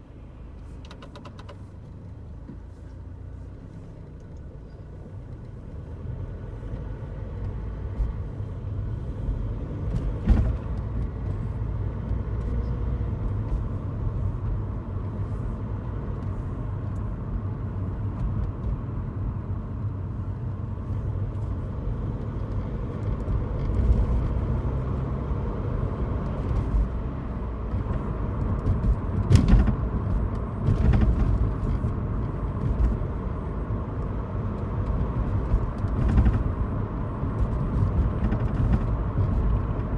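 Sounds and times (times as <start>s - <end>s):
road and engine rumble: 0.0s - 39.9s
car rattling: 0.6s - 1.7s, 6.6s - 39.9s.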